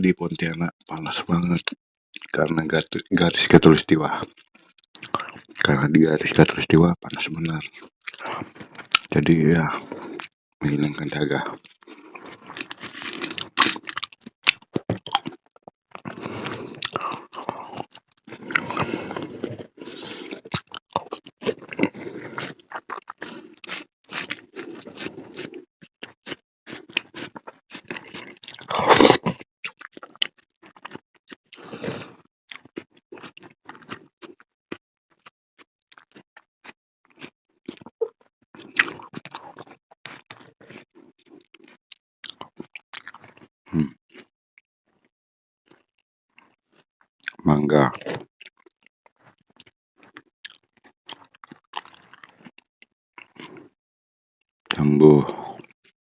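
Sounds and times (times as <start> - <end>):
chewing and crunching: 0.9 - 44.3, 45.7 - 53.8, 54.7 - 55.8.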